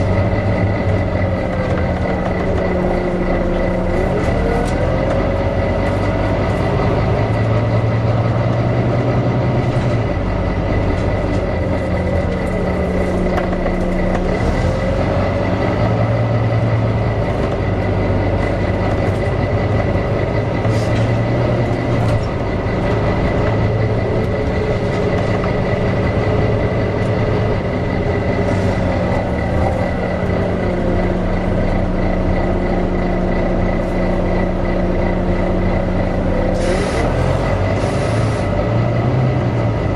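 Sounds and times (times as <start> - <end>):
bus engine running: 0.0 - 39.9
engine cooling fan whirring: 0.0 - 39.9.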